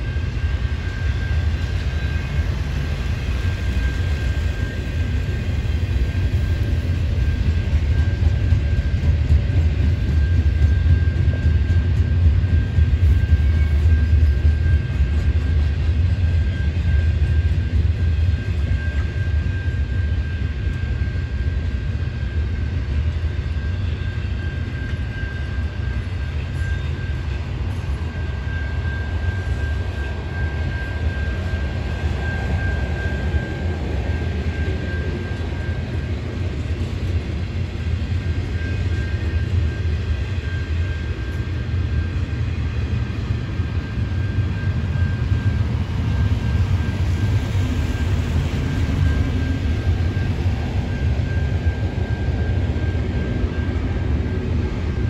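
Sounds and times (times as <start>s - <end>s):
freight train wheels rumbling: 0.0s - 55.0s
high-pitched whine: 0.0s - 55.0s.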